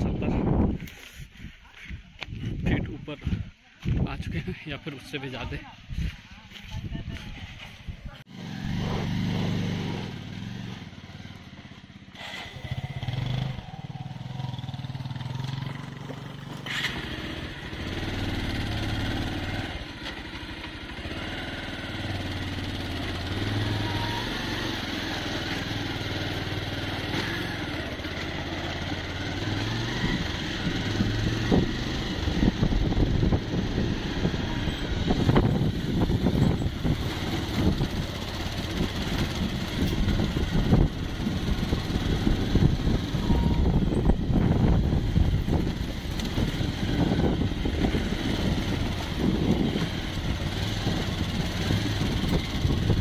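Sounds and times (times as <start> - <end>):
road and wind noise: 0.0 - 53.0
motorcycle engine revving: 7.6 - 53.0.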